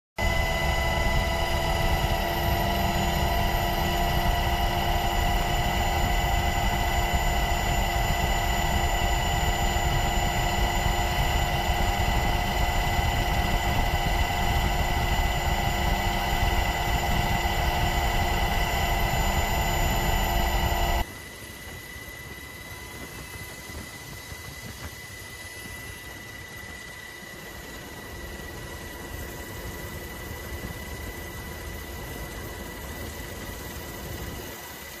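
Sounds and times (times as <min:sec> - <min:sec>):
aircraft engine drone: 0:00.2 - 0:35.0
engine whining tones: 0:00.2 - 0:35.0.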